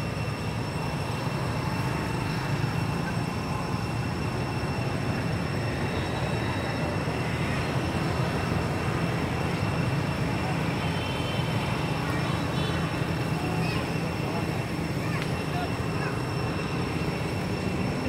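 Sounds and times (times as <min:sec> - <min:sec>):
faint high-pitched tones: 0:00.0 - 0:18.0.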